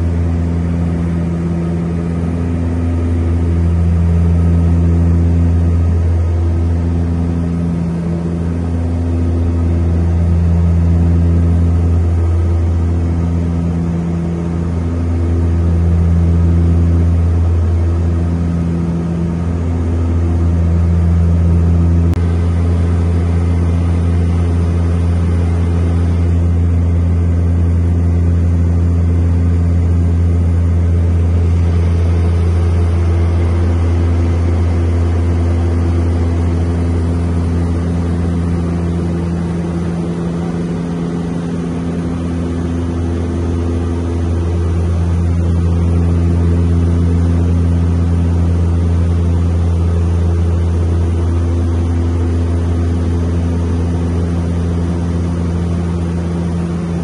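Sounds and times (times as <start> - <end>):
propeller plane engines droning: 0.0 - 57.0.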